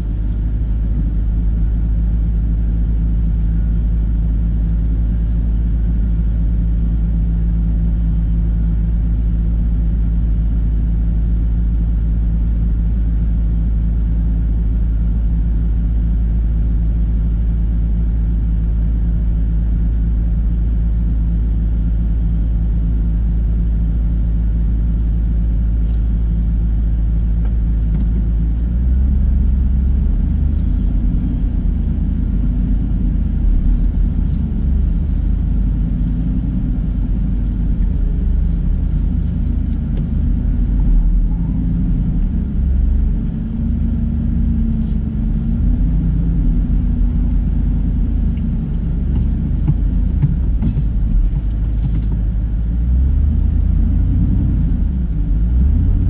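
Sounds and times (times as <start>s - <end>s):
pickup truck engine rumbling: 0.0s - 56.0s.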